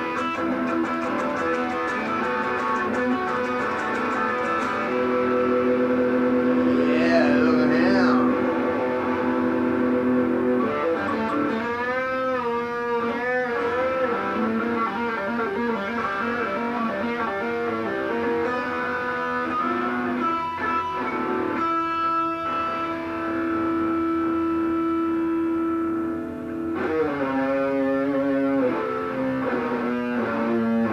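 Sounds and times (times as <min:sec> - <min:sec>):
guitar music with bending notes: 0:00.0 - 0:30.9.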